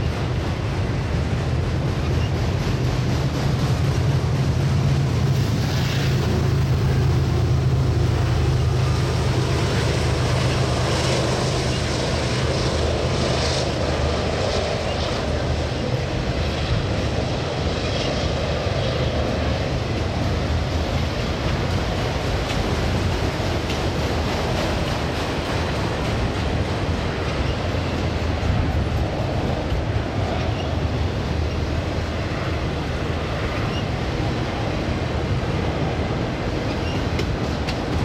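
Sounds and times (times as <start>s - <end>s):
freight train wheels clattering: 0.0s - 38.0s.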